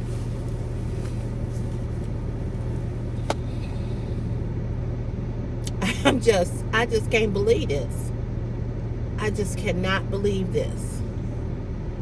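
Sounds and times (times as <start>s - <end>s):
car cabin hum and rumble: 0.0s - 12.0s.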